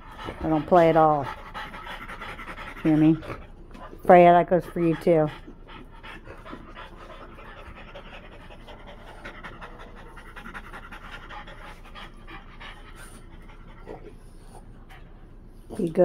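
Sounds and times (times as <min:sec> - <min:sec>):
dogs panting rapidly: 0:00.0 - 0:16.0.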